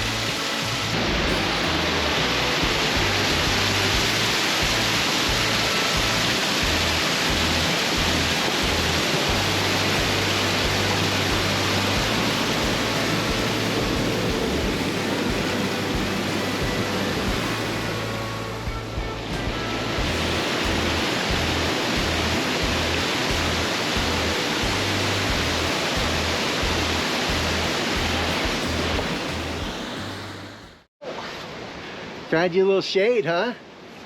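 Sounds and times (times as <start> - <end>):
creek water rushing: 0.0 - 32.4.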